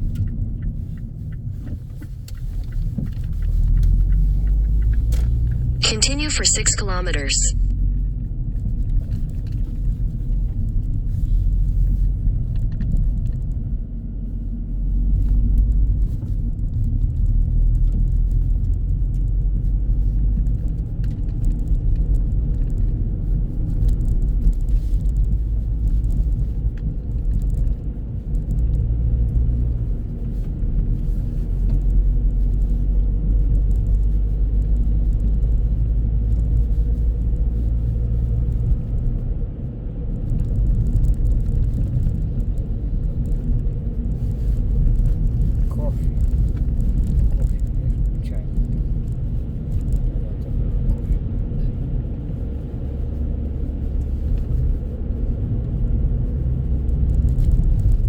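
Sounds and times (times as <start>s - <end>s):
car road and engine rumble: 0.0s - 6.0s, 7.9s - 58.0s.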